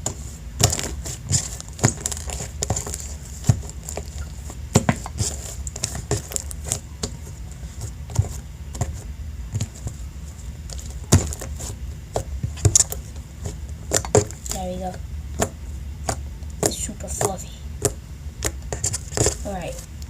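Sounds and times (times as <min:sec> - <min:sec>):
slime squishing by hand: 0:00.0 - 0:20.0.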